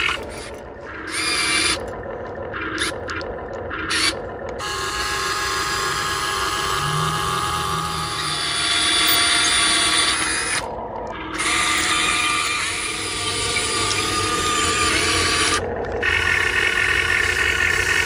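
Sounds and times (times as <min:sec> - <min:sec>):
small electric motor whining: 0:00.0 - 0:01.9, 0:03.8 - 0:18.0.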